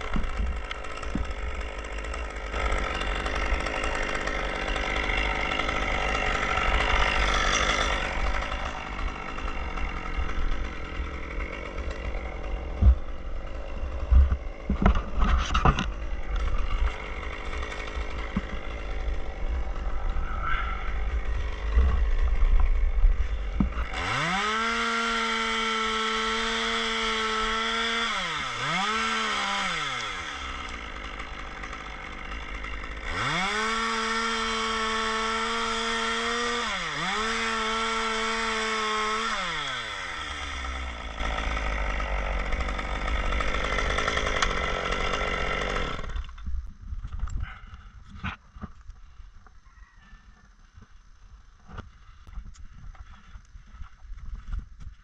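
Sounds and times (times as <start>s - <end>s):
chainsaw revving: 0.0s - 46.4s.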